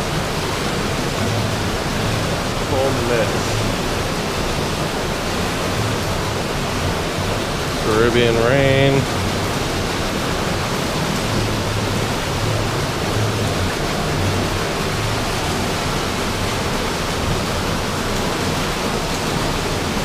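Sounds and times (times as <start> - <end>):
shower water pouring: 0.0 - 20.0.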